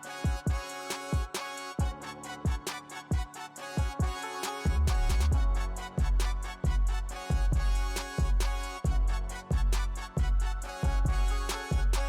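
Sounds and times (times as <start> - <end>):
background music: 0.0 - 12.0
deep booming kick drums: 1.8 - 12.0.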